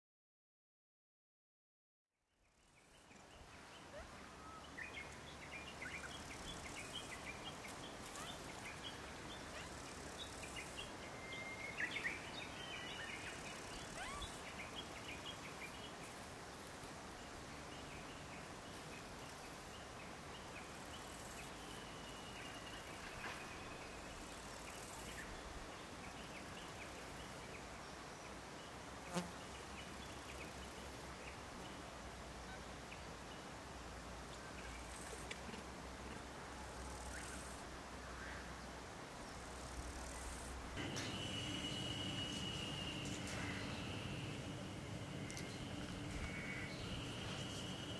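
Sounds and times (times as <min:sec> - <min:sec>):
faint steady hiss: 0:02.2 - 0:47.9.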